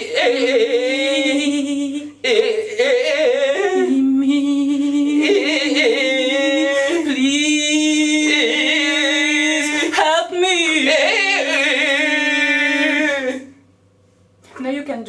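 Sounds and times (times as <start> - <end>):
singing-like vocalizing: 0.0 - 13.6.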